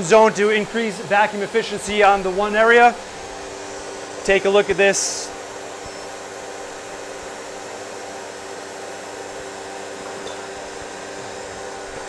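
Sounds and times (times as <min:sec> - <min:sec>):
vacuum pump running: 0:00.0 - 0:12.0.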